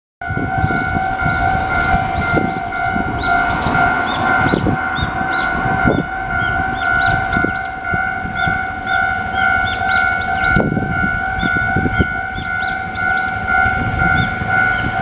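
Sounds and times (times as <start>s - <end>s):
level crossing alarm ringing: 0.2s - 15.0s.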